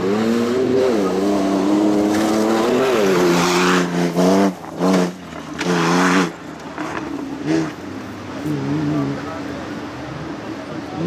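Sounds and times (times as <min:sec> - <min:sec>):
engine revving: 0:00.0 - 0:09.5.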